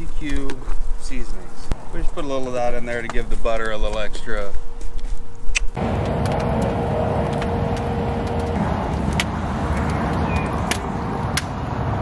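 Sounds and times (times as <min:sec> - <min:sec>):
burning wood crackles: 0:00.0 - 0:12.0.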